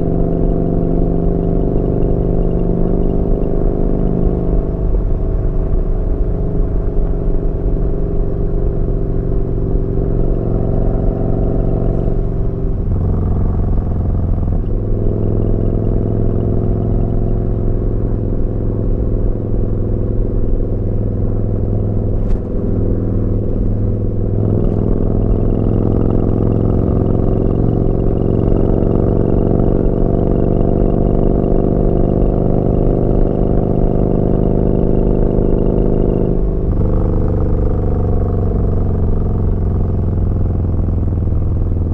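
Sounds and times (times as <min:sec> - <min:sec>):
motorcycle engine while riding: 0:00.0 - 0:41.9.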